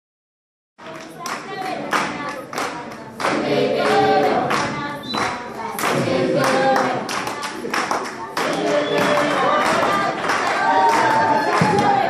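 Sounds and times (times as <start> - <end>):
group of voices singing: 0.8 - 12.0
hand-clapping: 0.8 - 12.0.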